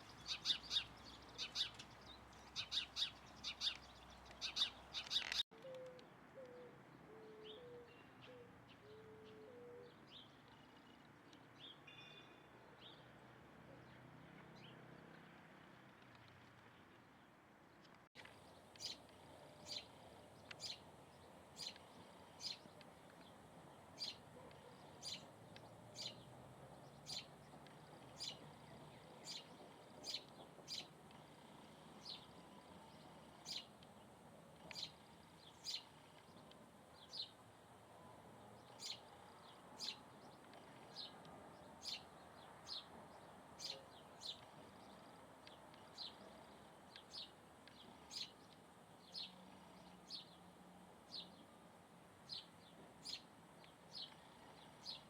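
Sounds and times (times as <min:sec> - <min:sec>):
bird chirping: 0:00.0 - 0:13.1, 0:18.4 - 0:37.4, 0:38.5 - 0:50.5, 0:52.3 - 0:55.0.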